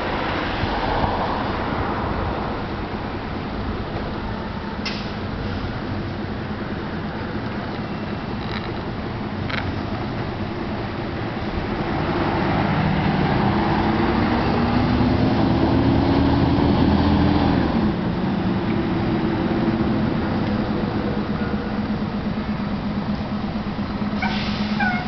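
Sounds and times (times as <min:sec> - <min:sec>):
bus engine accelerating: 0:00.0 - 0:25.0.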